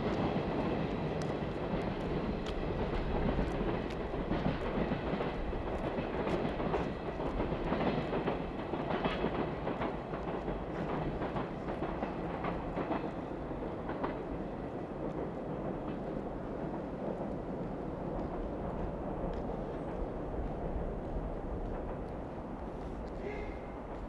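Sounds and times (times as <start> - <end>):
train rumble: 0.0 - 24.0
train wheels clicking over rail joints: 0.0 - 24.0.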